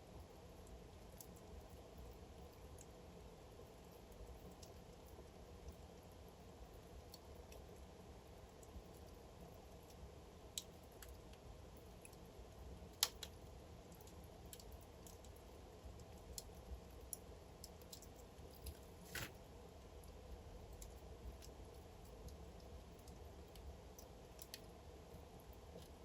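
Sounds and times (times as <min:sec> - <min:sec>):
fire crackling and popping: 0:00.3 - 0:26.0.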